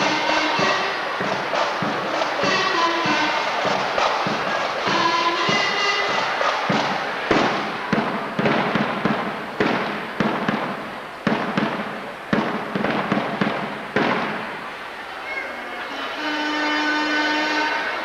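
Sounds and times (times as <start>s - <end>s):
marching drum hits echoing: 0.0s - 14.7s.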